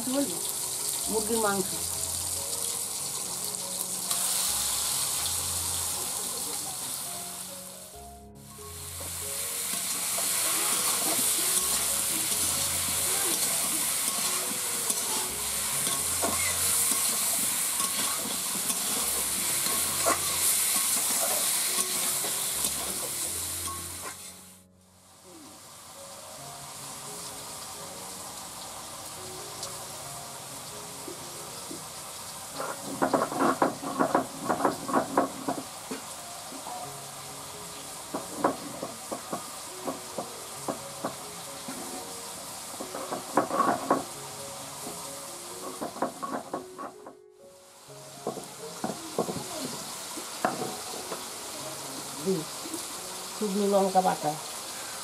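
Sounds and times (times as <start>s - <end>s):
chicken frying in hot oil: 0.0s - 7.8s, 8.7s - 46.7s, 47.7s - 55.0s.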